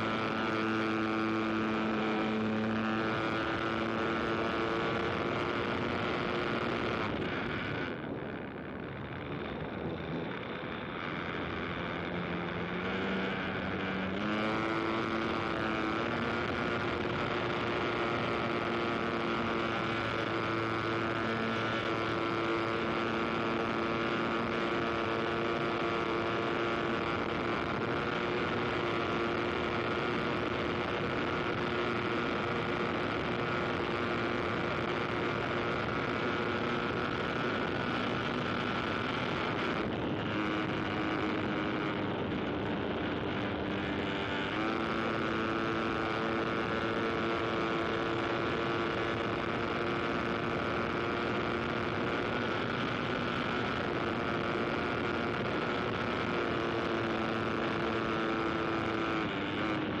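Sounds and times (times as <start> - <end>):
aircraft engine running: 0.0 - 56.5.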